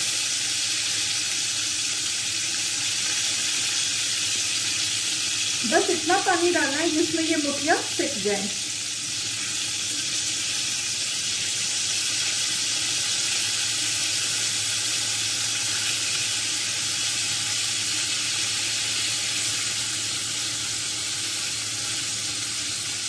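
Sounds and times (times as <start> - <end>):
hot oil sizzling: 0.0 - 23.0.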